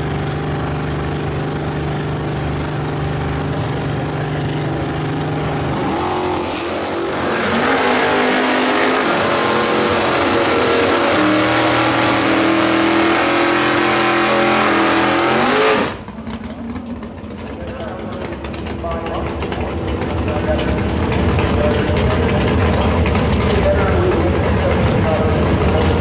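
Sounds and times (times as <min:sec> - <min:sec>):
drag car engine revving: 0:00.0 - 0:26.0.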